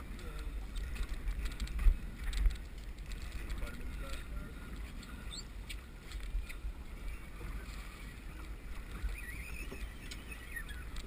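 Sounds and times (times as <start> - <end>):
wind buffeting microphone: 0.0 - 11.0
faint clicks: 0.1 - 6.6, 8.4 - 11.0.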